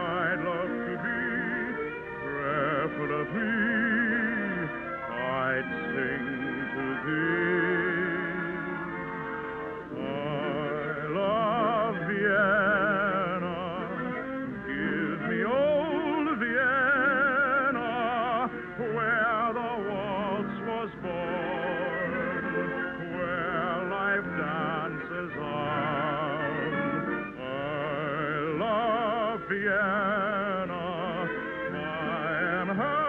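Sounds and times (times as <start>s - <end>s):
operetta singing with vibrato: 0.0s - 33.0s
orchestra: 0.0s - 33.0s.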